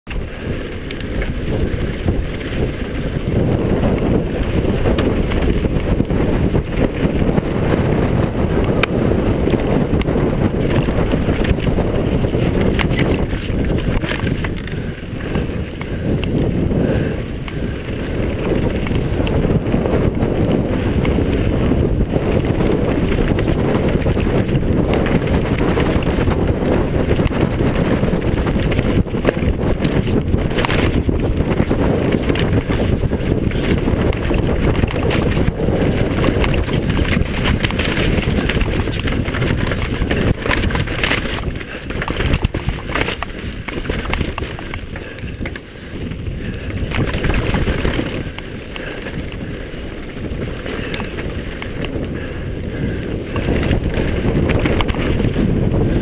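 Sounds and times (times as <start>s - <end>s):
bike clattering over dirt and stones: 0.1s - 56.0s
wind buffeting microphone: 0.1s - 56.0s.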